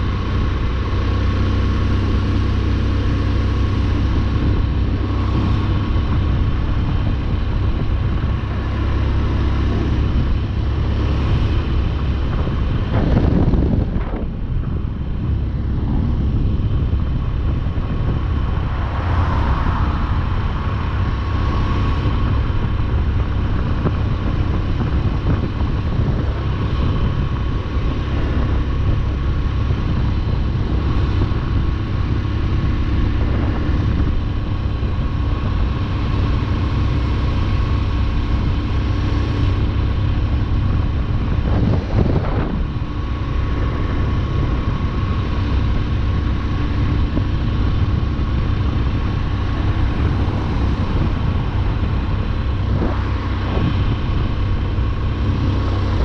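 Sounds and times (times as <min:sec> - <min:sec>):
motorcycle riding on road: 0:00.0 - 0:56.0.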